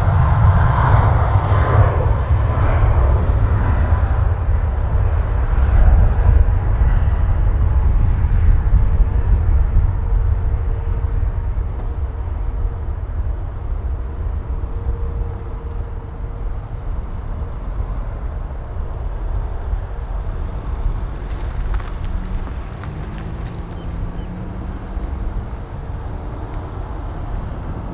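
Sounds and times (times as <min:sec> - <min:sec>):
jet engines rumbling: 0:00.0 - 0:27.9.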